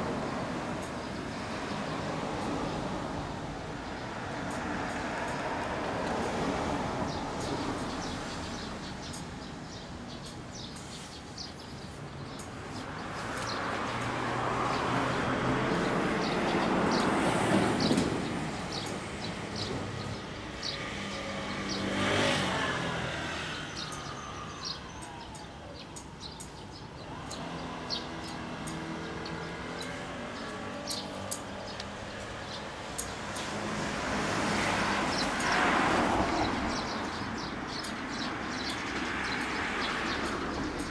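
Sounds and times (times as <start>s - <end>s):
cars passing on a street: 0.0s - 40.9s
small birds chirping: 0.0s - 40.9s.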